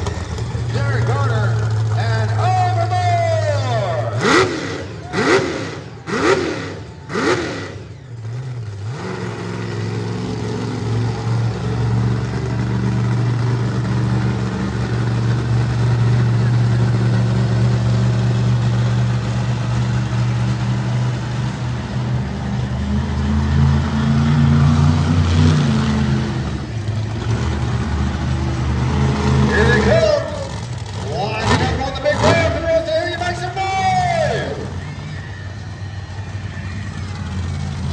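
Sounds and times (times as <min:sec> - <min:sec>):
truck engine droning: 0:00.0 - 0:37.9.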